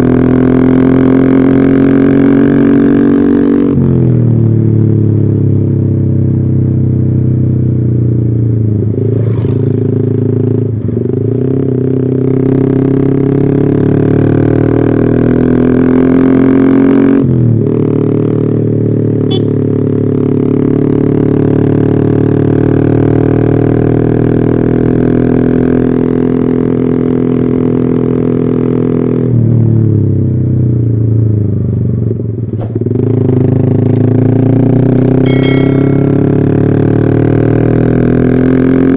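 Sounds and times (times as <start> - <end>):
motorcycle engine running: 0.0 - 16.5, 17.4 - 26.8, 29.8 - 38.9.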